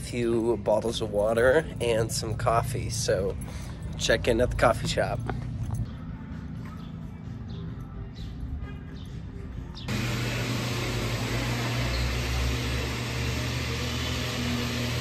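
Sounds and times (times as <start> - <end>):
faint street ambience: 0.0 - 15.0.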